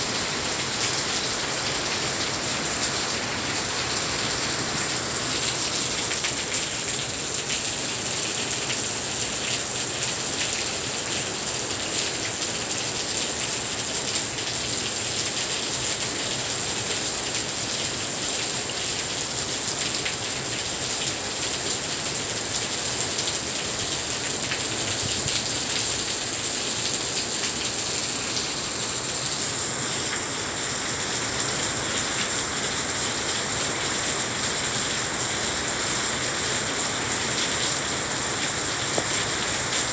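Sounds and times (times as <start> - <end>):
heavy rain on decking and glass: 0.0 - 39.9.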